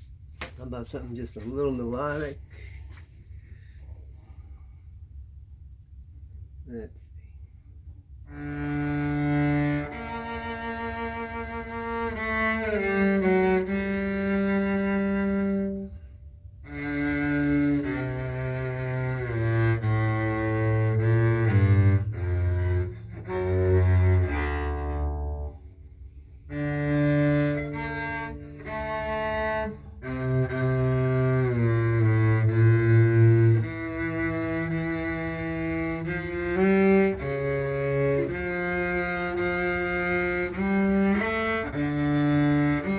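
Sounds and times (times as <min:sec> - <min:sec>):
bowed double bass: 0:07.6 - 0:42.9.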